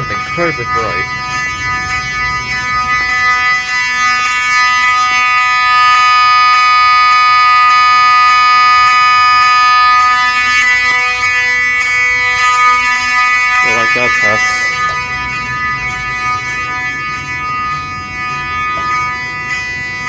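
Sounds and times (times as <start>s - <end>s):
electronic fire alarm horn: 0.0s - 20.0s.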